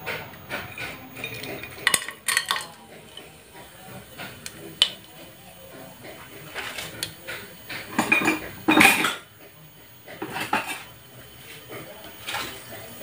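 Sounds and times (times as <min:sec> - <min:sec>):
metal utensils clattering and scraping: 0:00.0 - 0:13.0.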